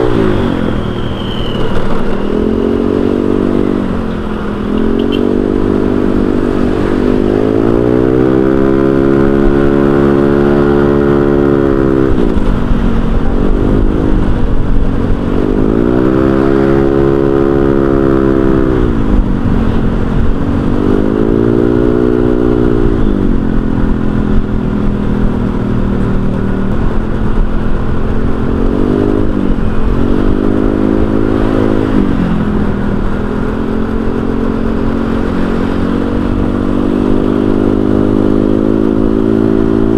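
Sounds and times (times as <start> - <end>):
road rumble: 0.0 - 39.9
scooter engine revving: 0.0 - 39.9.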